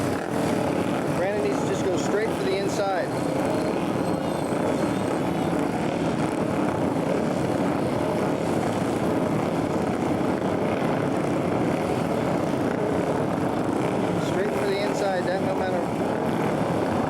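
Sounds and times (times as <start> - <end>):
motorcycle engines droning: 0.0 - 17.0.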